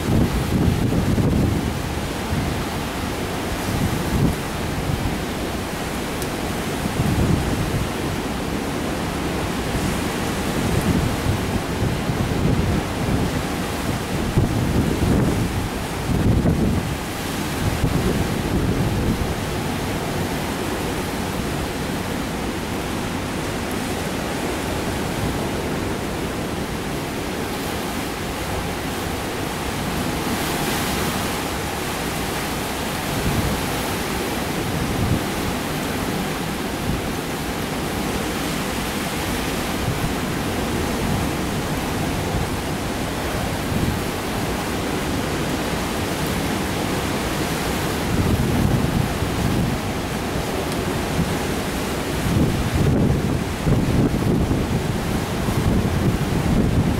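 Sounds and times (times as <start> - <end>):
strong wind: 0.0 - 56.9.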